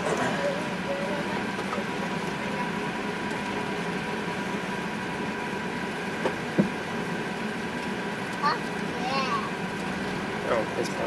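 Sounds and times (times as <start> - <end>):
aircraft engines and air conditioning: 0.0 - 11.0.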